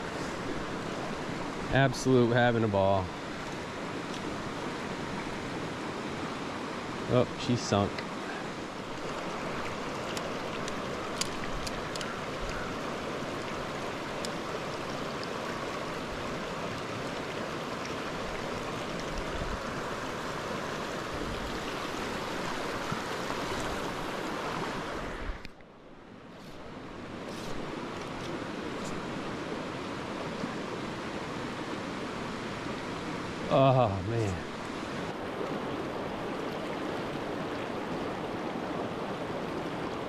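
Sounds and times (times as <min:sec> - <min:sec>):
stream rushing over rocks: 0:00.0 - 0:25.4, 0:26.4 - 0:40.0.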